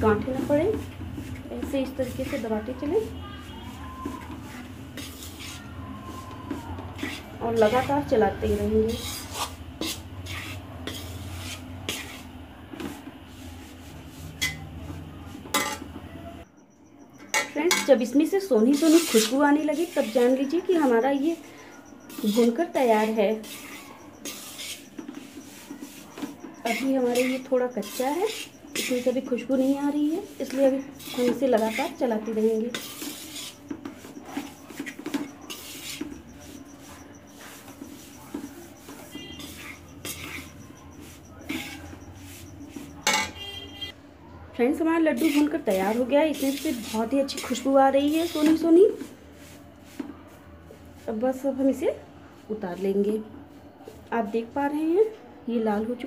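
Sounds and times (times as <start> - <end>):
spatula scraping metal pan: 0.0 - 6.3, 6.9 - 15.9, 17.3 - 43.9, 45.0 - 49.6.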